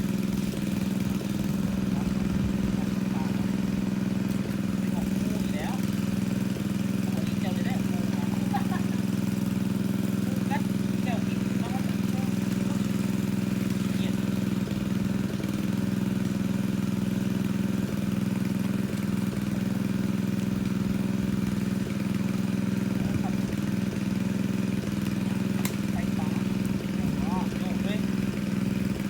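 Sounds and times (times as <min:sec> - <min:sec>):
water pump engine humming: 0:00.0 - 0:29.0.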